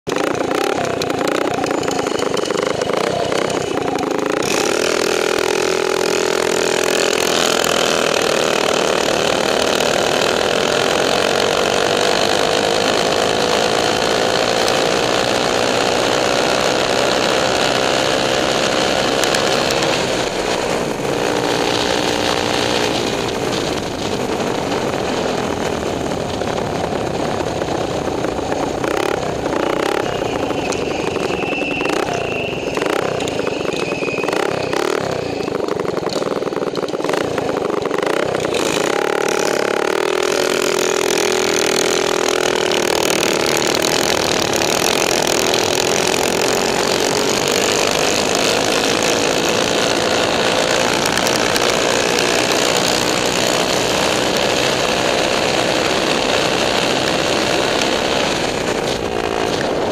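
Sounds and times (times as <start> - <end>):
minibike engine running: 0.1 - 59.9.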